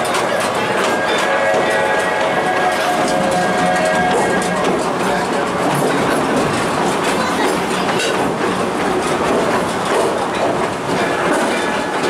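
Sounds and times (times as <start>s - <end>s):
train cars rumbling and rattling: 0.0s - 12.0s
train wheels clacking: 0.0s - 12.0s.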